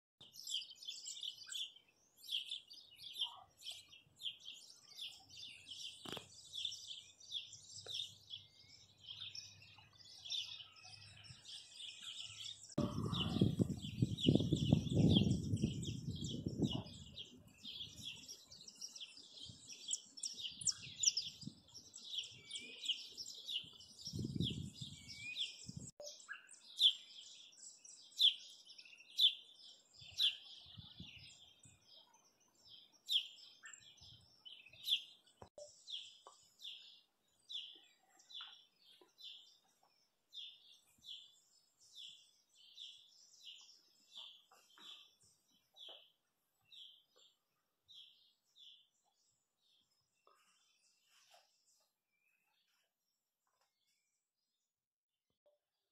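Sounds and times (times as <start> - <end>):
songbirds chirping and singing: 0.2 - 54.6.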